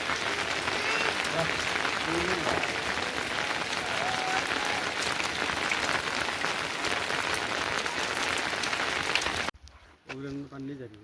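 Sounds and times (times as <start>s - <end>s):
heavy rain falling: 0.0s - 9.5s.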